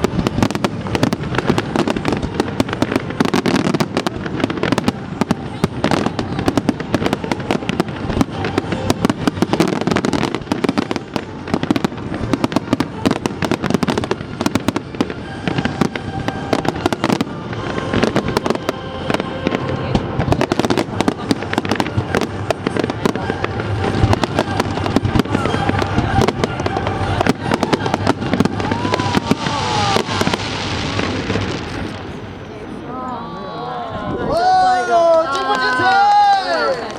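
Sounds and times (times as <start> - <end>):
fireworks bangs and crackles: 0.0 - 32.5.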